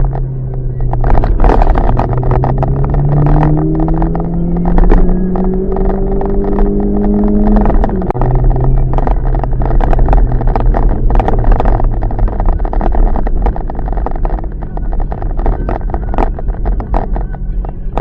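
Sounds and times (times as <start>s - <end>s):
car engine humming: 0.0s - 18.0s
low road rumble: 0.0s - 18.0s.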